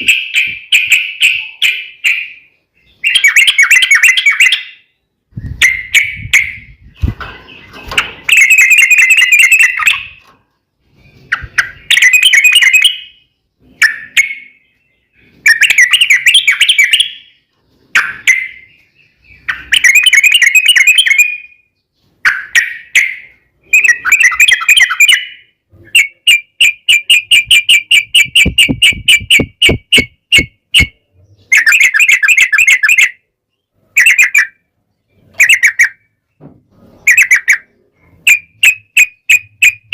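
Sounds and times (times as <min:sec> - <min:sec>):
bird singing bubbly song: 0:00.0 - 0:10.2, 0:11.0 - 0:36.2.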